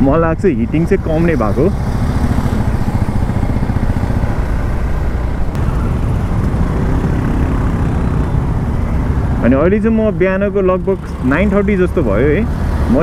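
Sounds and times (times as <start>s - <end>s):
motorcycle engine running: 0.0s - 13.0s
road noise: 0.0s - 13.0s.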